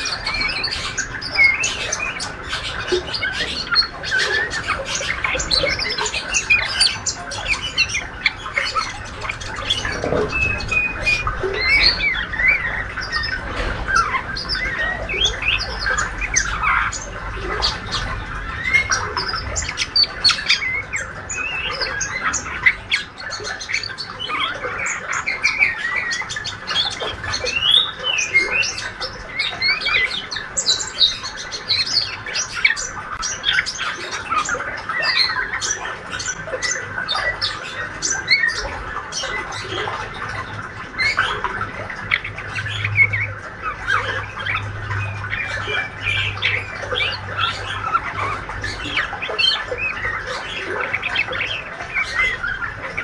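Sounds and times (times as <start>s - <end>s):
bird twittering song: 0.0s - 53.0s.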